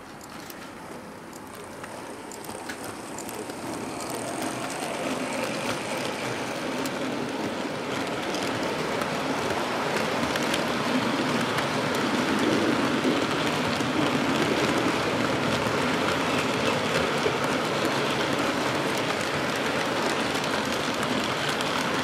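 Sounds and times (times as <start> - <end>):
model train wheels rumbling on rail: 0.0 - 22.0.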